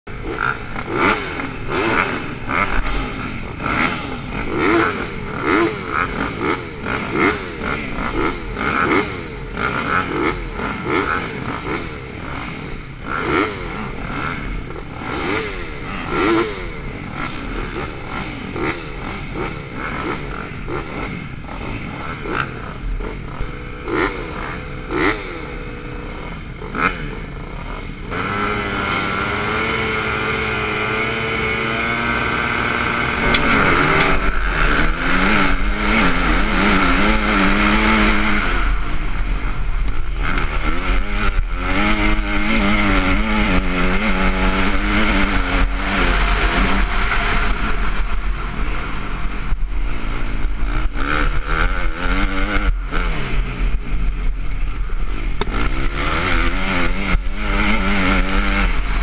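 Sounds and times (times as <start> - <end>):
motocross bike engines revving: 0.1 - 59.0.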